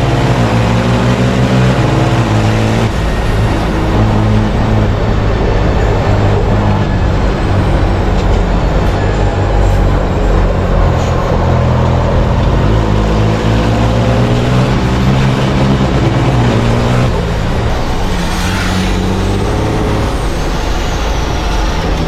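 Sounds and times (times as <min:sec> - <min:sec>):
diesel truck engine under load: 0:00.0 - 0:22.0.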